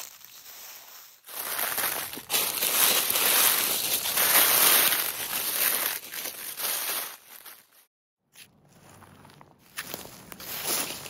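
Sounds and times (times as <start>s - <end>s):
footsteps crunching dry leaves: 0.0s - 7.9s, 8.6s - 11.0s.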